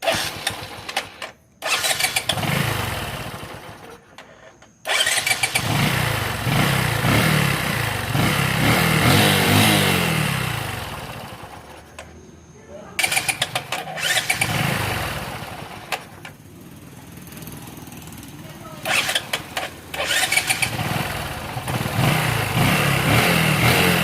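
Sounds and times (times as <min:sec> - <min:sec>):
engine starting and running: 0:00.0 - 0:24.0.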